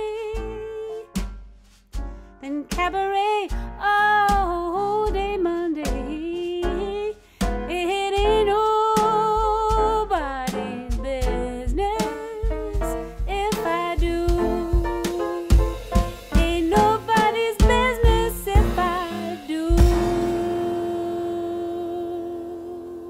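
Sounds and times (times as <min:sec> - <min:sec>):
woman singing jazz: 0:00.0 - 0:01.3, 0:02.4 - 0:23.0
drum kit played with brushes: 0:00.0 - 0:23.0
upright piano: 0:00.0 - 0:23.0.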